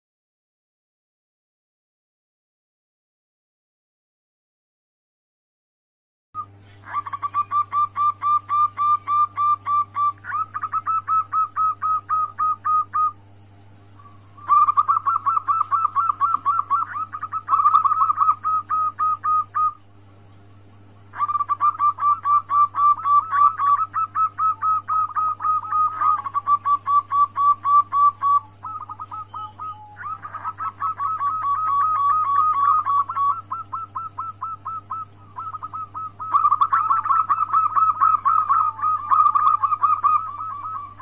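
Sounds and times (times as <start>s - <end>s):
dove cooing: 6.4s - 13.2s, 13.9s - 19.8s, 20.4s - 41.0s
low steady hum: 6.4s - 41.0s.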